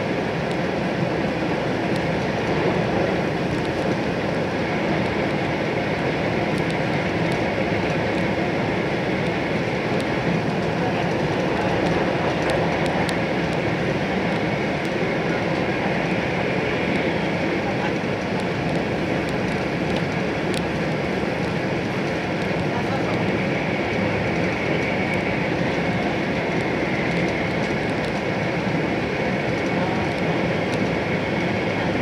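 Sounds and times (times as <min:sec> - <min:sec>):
train cabin rumble and rush: 0:00.0 - 0:32.0.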